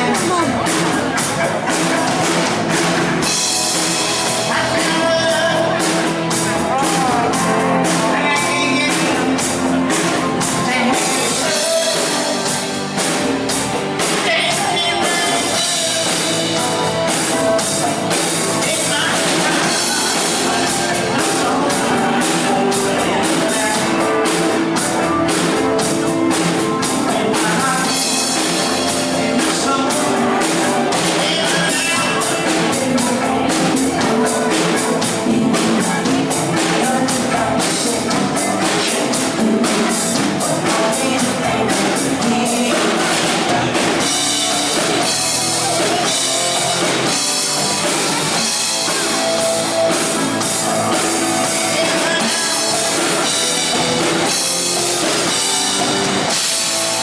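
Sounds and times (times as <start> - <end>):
band playing pop-rock: 0.0 - 57.0
person singing: 0.0 - 57.0
steady drum beat: 0.0 - 57.0.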